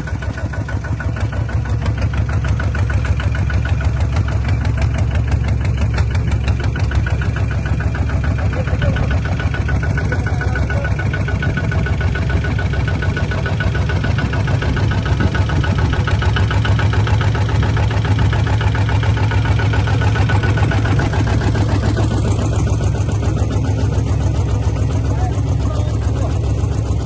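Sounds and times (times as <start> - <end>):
bulldozer engine running: 0.0 - 27.0.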